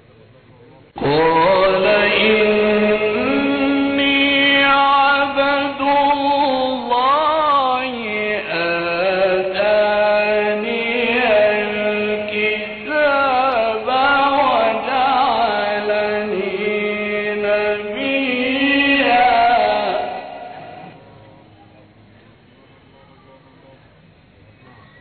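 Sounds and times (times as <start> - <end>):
man chanting: 1.0 - 21.3.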